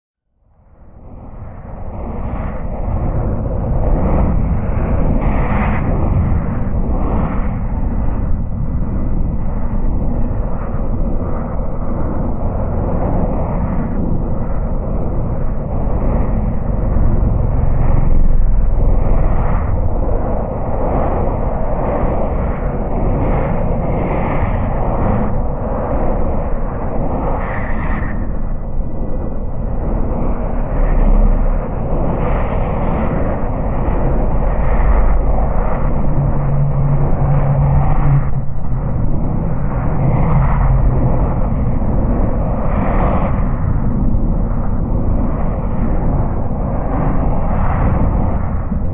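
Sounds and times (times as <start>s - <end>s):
low hum: 0.3s - 48.9s
low rumbling white noise: 0.4s - 27.4s, 28.0s - 48.9s
deep steady noise: 0.4s - 48.9s.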